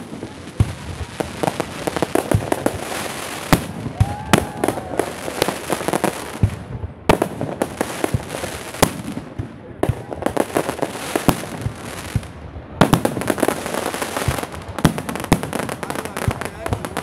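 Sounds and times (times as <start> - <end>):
crackling of firework stars: 0.0 - 17.0.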